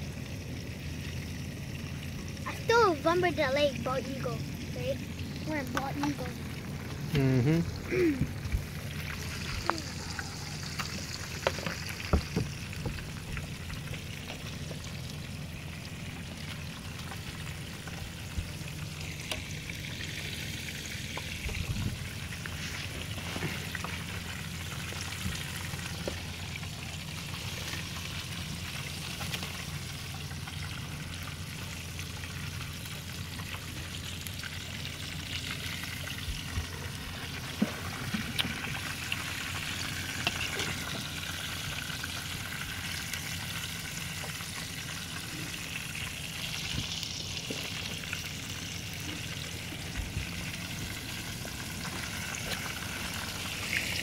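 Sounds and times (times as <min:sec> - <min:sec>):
fish sizzling in hot oil: 0:07.7 - 0:54.0.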